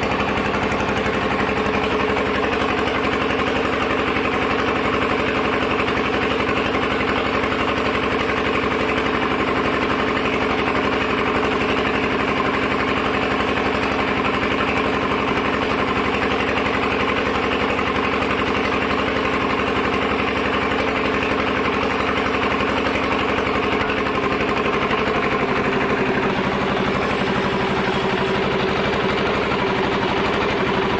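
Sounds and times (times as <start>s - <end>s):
sawmill machinery running: 0.0s - 30.9s.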